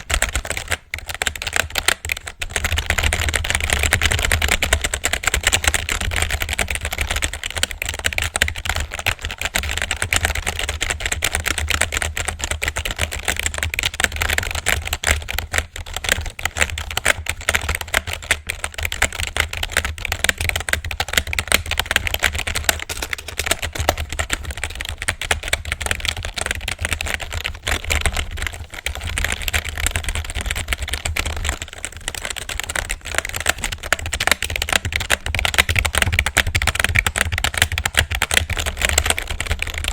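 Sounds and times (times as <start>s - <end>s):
rapid typing on a keyboard: 0.0s - 39.9s.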